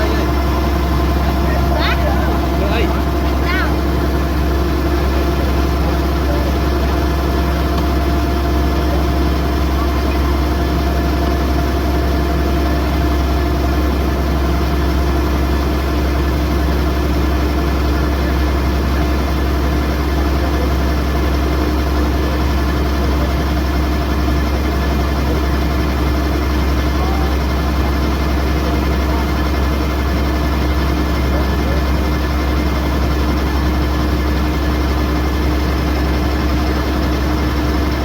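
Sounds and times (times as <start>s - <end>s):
combine harvester diesel engine running: 0.0s - 38.0s.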